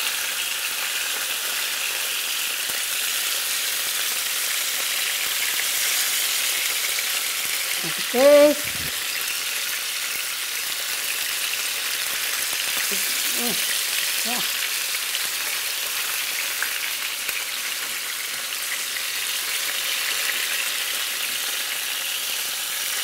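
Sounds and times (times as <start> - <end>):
fish sizzling in oil: 0.0 - 23.0.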